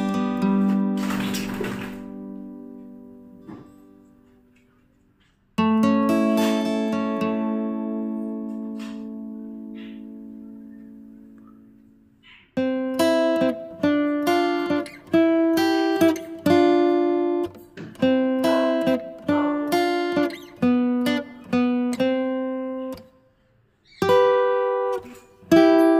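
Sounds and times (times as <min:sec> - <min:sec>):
acoustic guitar chords: 0:00.0 - 0:23.2, 0:24.0 - 0:25.9.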